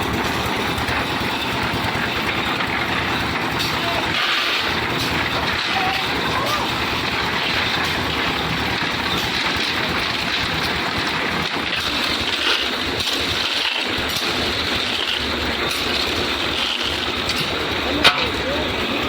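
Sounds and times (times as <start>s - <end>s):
concrete mixer running: 0.0s - 19.0s.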